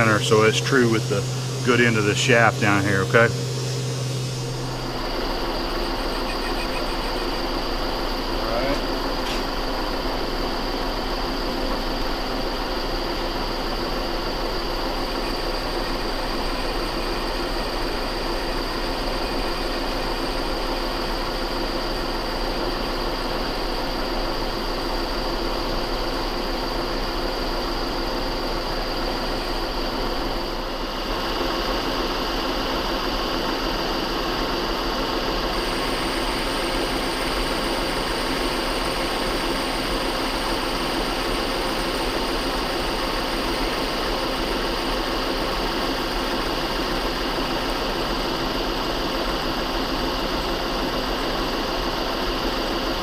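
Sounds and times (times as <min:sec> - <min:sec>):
metal lathe running: 0:00.0 - 0:52.9.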